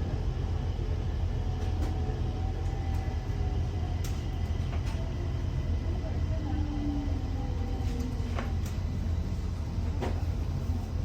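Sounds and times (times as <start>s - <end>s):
metro train rumble: 0.0s - 11.0s.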